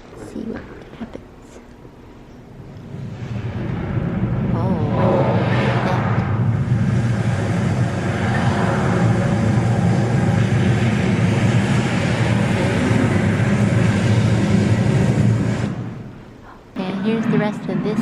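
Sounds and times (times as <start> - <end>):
loud steady rumbling: 0.0 - 18.0.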